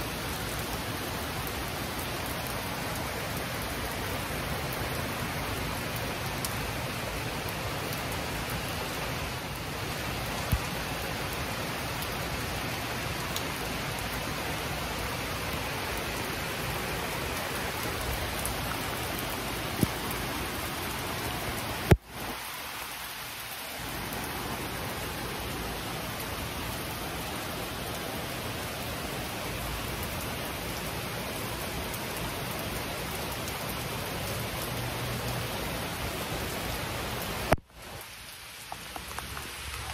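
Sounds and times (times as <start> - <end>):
heavy rain on deck and trees: 0.0 - 39.9.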